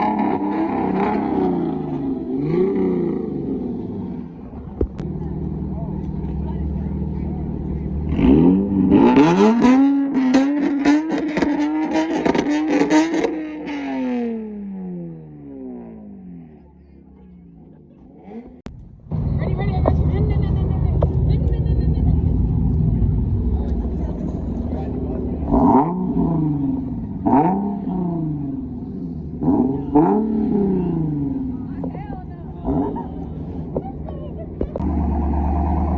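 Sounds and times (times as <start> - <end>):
car engine revving with crackle: 0.0 - 15.8, 22.2 - 35.9.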